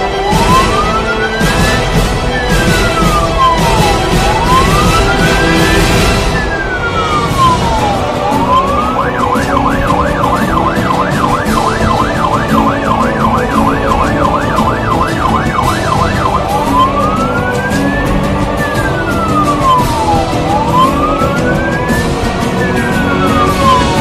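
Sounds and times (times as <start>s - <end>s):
electronic siren wail and yelp: 0.0s - 24.0s
truck engine and road noise: 0.0s - 24.0s.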